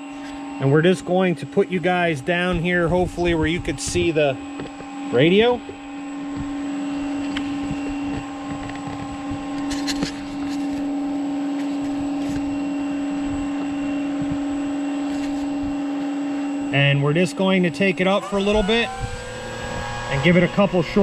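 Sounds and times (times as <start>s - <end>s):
electric motor and propeller hum: 0.0s - 21.0s.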